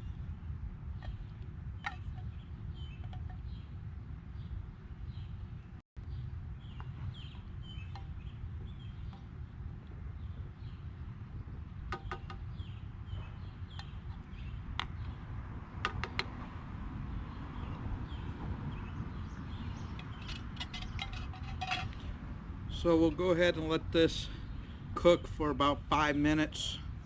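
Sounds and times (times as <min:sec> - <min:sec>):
small birds chirping: 0:00.0 - 0:16.6, 0:17.2 - 0:26.8
steady low rumble: 0:00.0 - 0:27.0.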